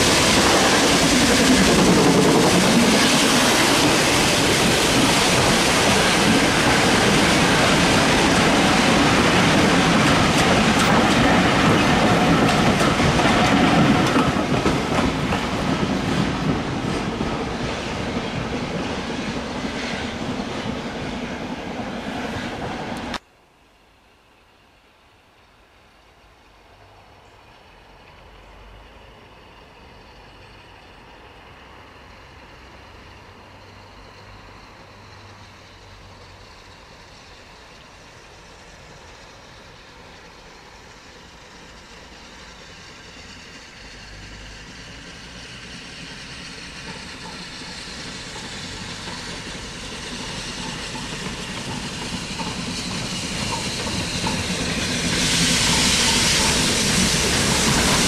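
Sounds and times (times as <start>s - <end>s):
steam train approaching: 0.0s - 58.0s.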